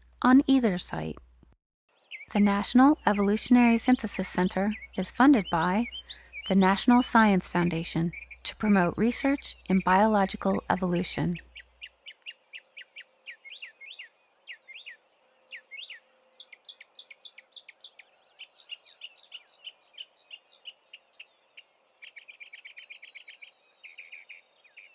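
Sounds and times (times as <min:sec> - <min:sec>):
mockingbird singing: 0:02.0 - 0:24.9.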